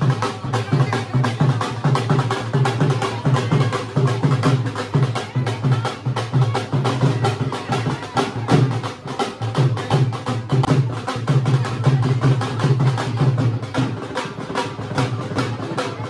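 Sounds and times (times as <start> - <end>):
music with fast drumming: 0.0 - 16.0.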